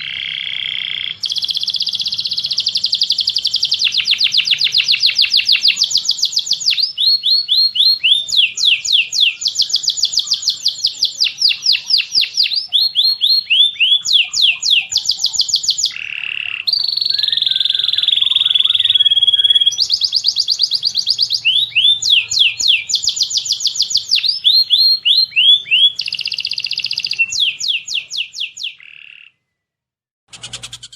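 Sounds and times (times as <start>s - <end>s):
birds chirping: 0.0s - 29.7s, 30.3s - 30.9s.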